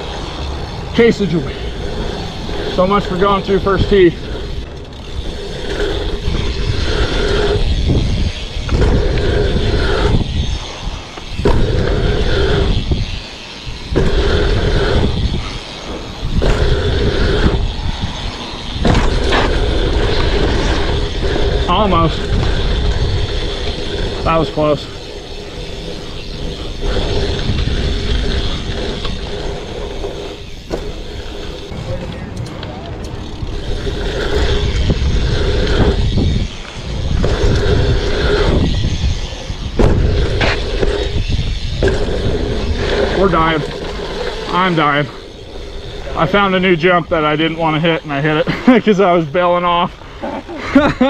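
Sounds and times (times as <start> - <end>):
bike tyres rolling over dirt: 0.0 - 51.0
wind buffeting microphone: 0.0 - 51.0.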